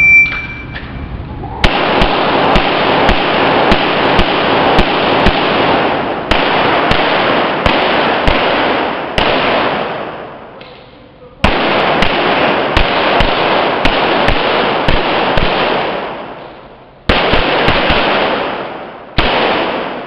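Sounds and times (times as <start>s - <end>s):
pistol shots echoing indoors: 1.6s - 20.0s.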